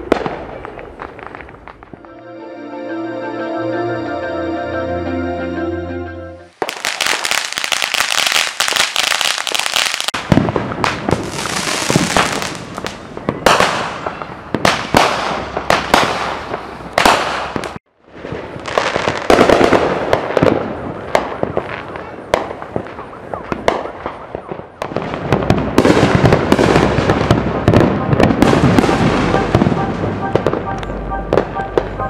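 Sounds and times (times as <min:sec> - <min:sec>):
fireworks crackling and banging: 0:00.0 - 0:02.1, 0:06.5 - 0:32.0.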